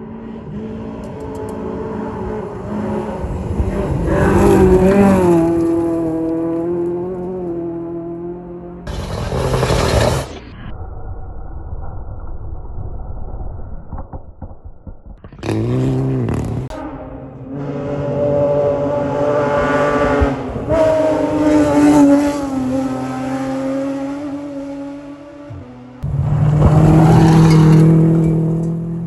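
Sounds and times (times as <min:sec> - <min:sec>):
rally car engine: 0:00.0 - 0:10.5, 0:13.9 - 0:29.0.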